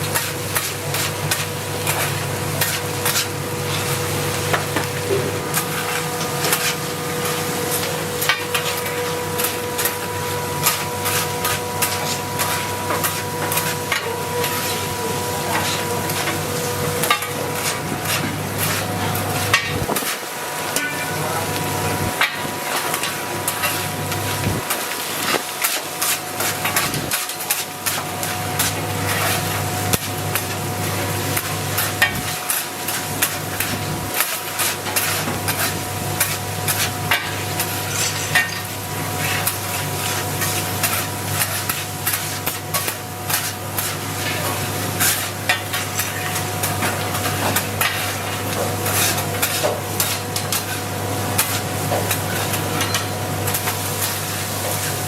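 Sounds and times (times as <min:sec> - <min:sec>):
food frying: 0:00.0 - 0:55.0
steady machine hum: 0:00.0 - 0:55.0.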